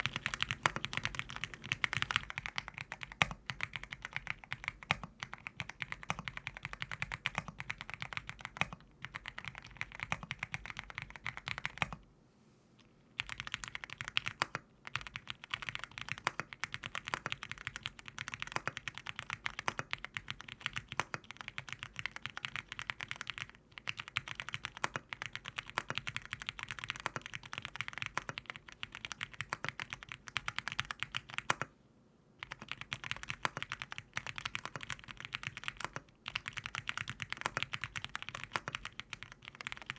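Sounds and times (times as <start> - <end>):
mechanical keyboard typing: 0.0 - 12.0, 13.2 - 31.7, 32.4 - 39.9.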